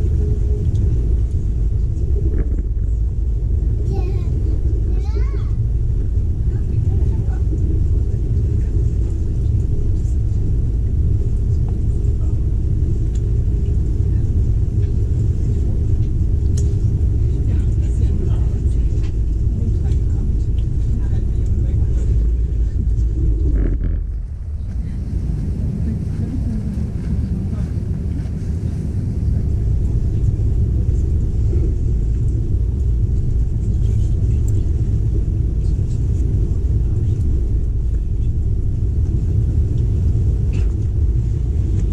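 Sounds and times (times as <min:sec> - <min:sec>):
passenger train rumbling: 0:00.0 - 0:41.9.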